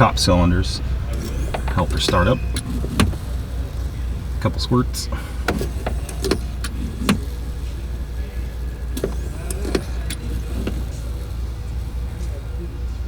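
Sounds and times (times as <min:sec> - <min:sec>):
steady low hum: 0:00.0 - 0:13.0
primer plunger clicking and squeaking: 0:01.1 - 0:12.6.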